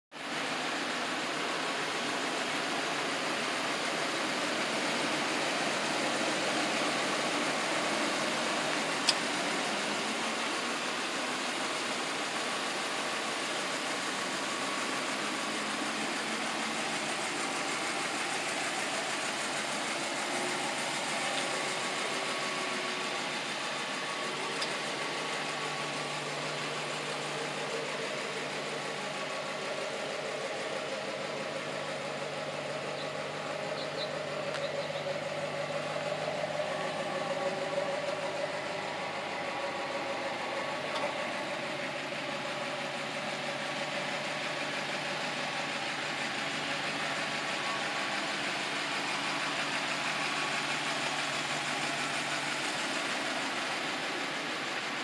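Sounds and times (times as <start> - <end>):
outdoor hiss: 0.2 - 55.0
pickup engine idling: 0.2 - 55.0.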